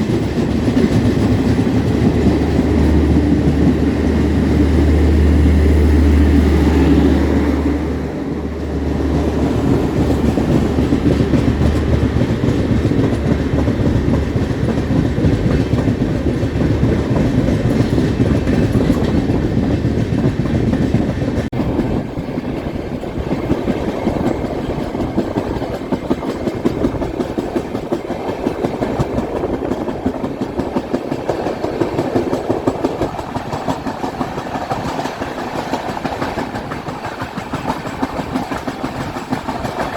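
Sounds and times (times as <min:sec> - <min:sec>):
train rumbling and rattling: 0:00.0 - 0:39.9
wheels clacking over rail joints: 0:00.0 - 0:39.9.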